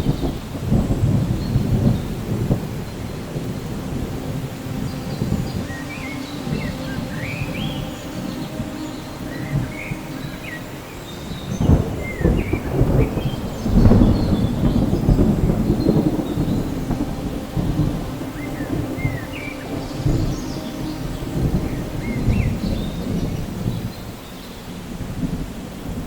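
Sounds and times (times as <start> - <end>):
thunder rolling: 0.0 - 24.1
steady rain: 0.0 - 26.0.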